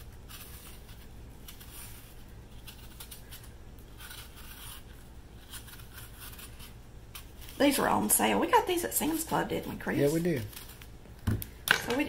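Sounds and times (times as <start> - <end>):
blade peeling apple skin: 0.0 - 11.0.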